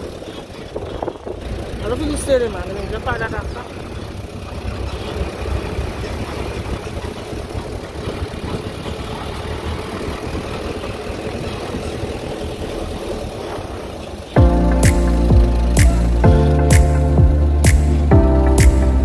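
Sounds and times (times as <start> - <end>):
motor vehicle engine hum: 0.0 - 19.0.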